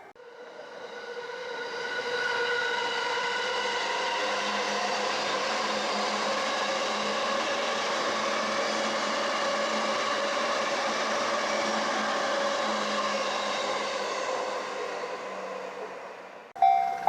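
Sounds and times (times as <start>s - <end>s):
electric train rolling past: 0.0s - 17.0s
steady train tones: 0.0s - 17.0s.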